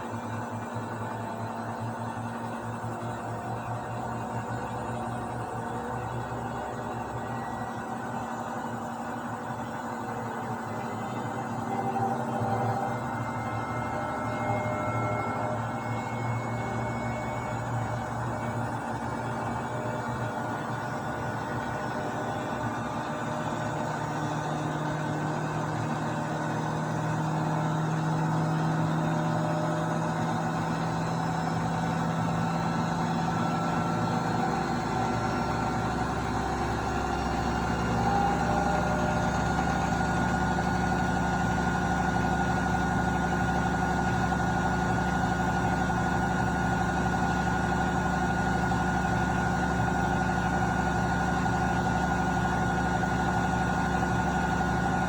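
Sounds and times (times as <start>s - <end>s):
washing machine motor whine: 0.0s - 55.0s.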